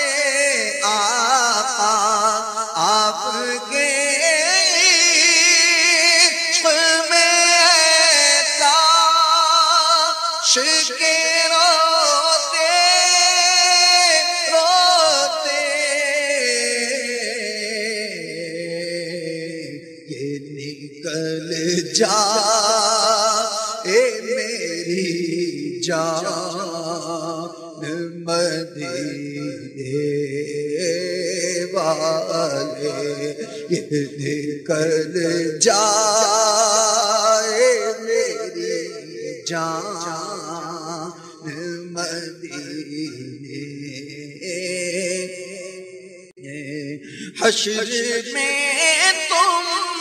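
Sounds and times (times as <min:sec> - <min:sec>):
man singing drawn-out notes: 0:00.0 - 0:50.0.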